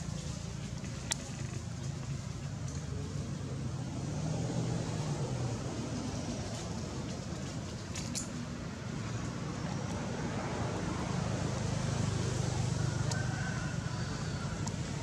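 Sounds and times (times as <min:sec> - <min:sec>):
low rumble of motor traffic: 0:00.0 - 0:15.0.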